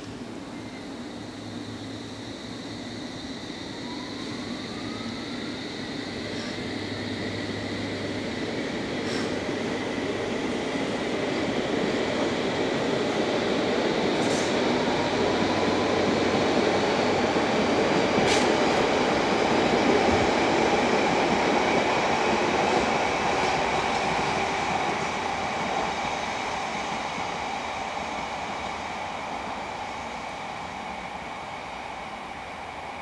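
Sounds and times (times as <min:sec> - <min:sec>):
train wheels running on rails: 0:00.0 - 0:33.0
sharp clicks of train wheels: 0:05.9 - 0:33.0.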